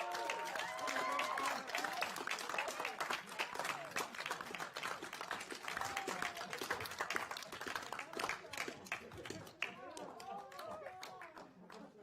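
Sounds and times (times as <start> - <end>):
people cheering: 0.0 - 4.7, 5.4 - 8.7, 9.4 - 11.9
people clapping: 0.0 - 12.0.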